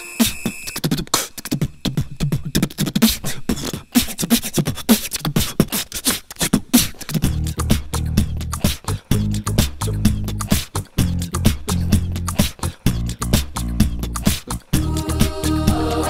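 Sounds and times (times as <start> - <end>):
beatboxing: 0.0 - 16.0.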